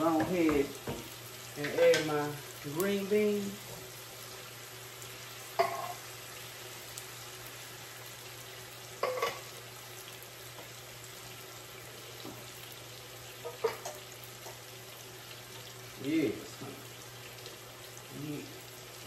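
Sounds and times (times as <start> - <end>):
food sizzling in a skillet: 0.0 - 19.0.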